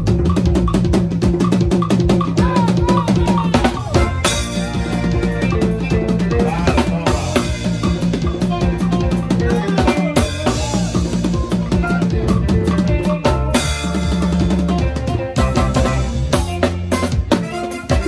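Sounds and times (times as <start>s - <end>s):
bass guitar groove: 0.0s - 18.0s
drum kit played fast: 0.0s - 18.0s.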